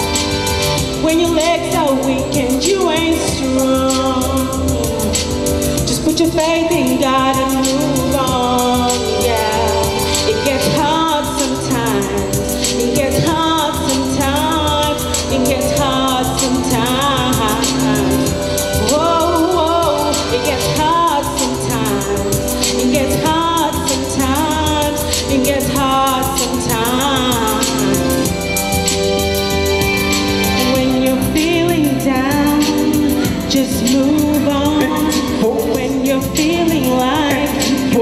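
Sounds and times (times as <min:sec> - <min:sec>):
live gospel-pop band: 0:00.0 - 0:38.0.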